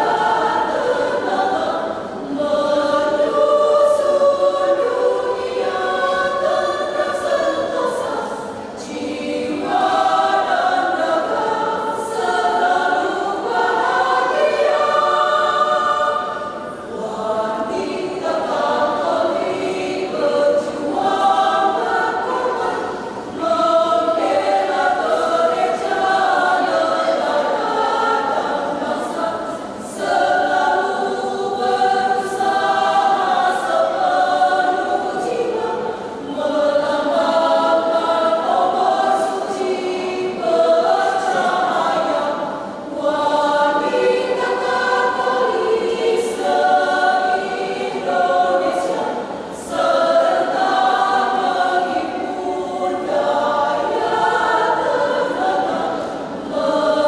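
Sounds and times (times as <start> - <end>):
women's choir singing: 0.0 - 57.0.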